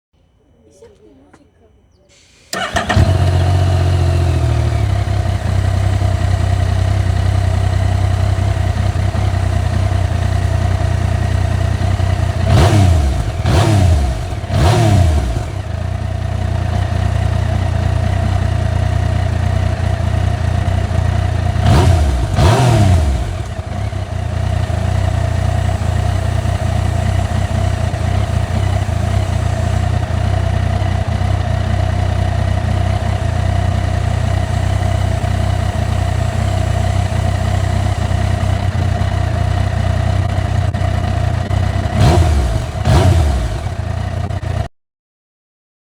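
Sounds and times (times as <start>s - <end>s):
motorcycle engine revving: 2.5s - 44.7s.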